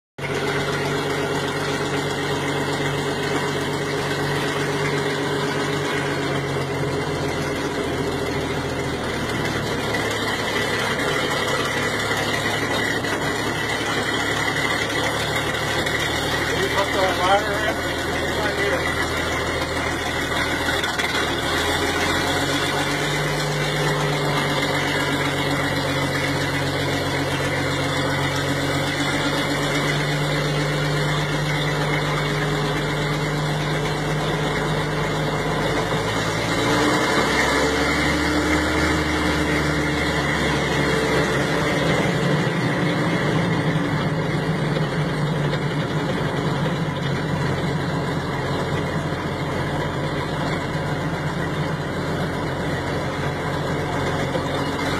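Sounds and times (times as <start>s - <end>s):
tractor engine running: 0.2s - 54.9s.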